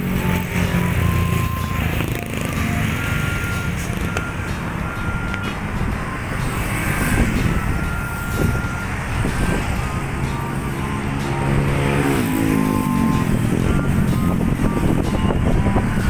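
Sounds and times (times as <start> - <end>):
engine slowing down: 0.0 - 16.0
road traffic rumble: 0.0 - 16.0.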